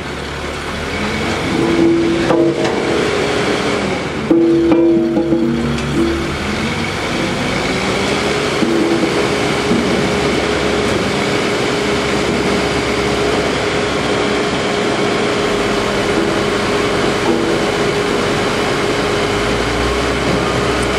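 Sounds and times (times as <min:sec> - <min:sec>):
constant machine whine: 0:00.0 - 0:20.9
heavy machinery engine drone: 0:00.0 - 0:20.9.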